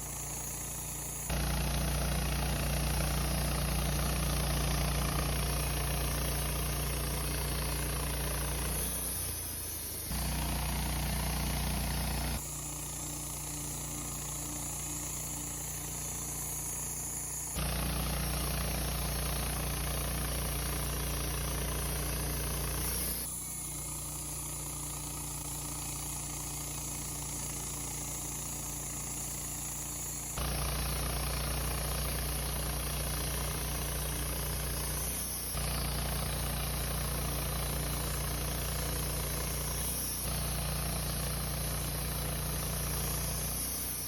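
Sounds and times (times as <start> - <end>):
band sawmill engine hum: 0.0 - 43.4.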